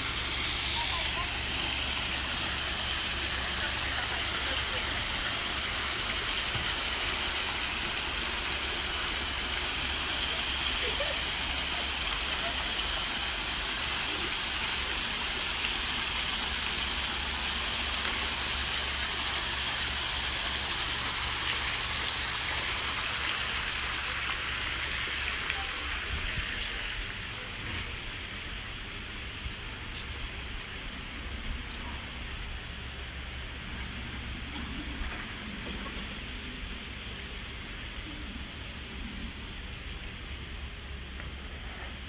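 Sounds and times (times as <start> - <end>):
water running and splashing: 0.0 - 38.4.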